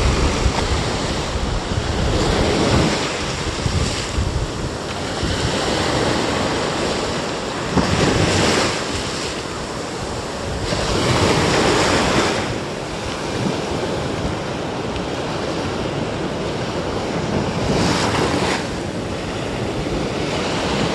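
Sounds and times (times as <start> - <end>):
small waves washing up shore: 0.0 - 20.9
wind buffeting microphone: 0.0 - 20.9.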